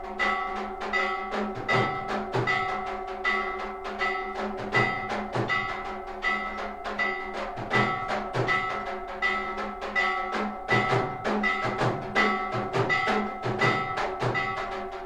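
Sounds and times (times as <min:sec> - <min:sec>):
drums struck in steady rhythm: 0:00.0 - 0:15.0
temple bells ringing: 0:00.0 - 0:15.0.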